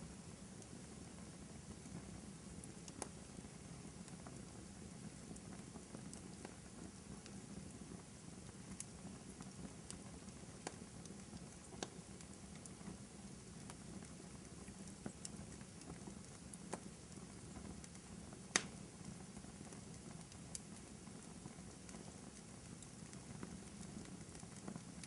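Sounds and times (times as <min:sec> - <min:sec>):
fire crackling and popping: 0:00.0 - 0:25.0
fire rushing flame: 0:00.0 - 0:25.0.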